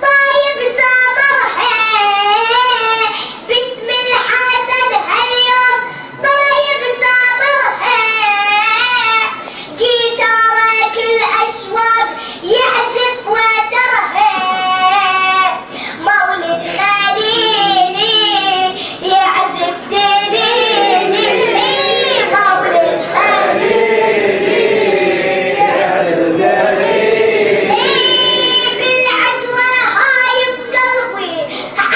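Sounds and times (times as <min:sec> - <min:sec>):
high voice chanting a religious poem: 0:00.0 - 0:31.9.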